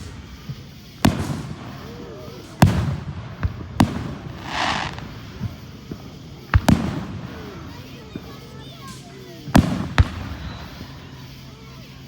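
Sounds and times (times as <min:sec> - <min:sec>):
crackling hiss of fireworks: 0:00.0 - 0:12.0
fireworks booming: 0:00.0 - 0:12.0.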